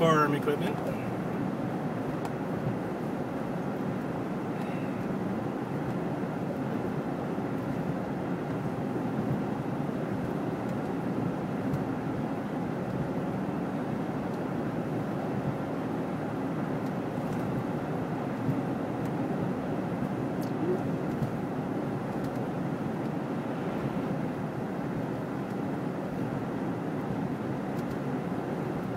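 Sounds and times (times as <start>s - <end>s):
car road and engine noise: 0.0s - 28.9s.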